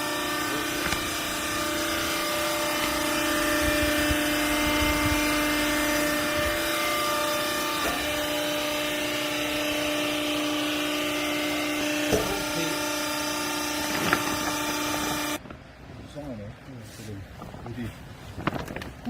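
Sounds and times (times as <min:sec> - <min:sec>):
hydraulic press motor humming: 0:00.0 - 0:15.4.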